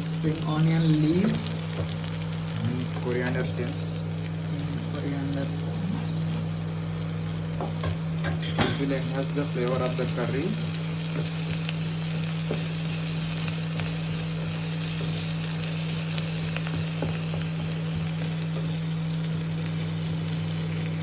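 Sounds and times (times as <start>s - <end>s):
onions sizzling in oil: 0.0s - 21.0s
steady low hum: 0.0s - 21.0s.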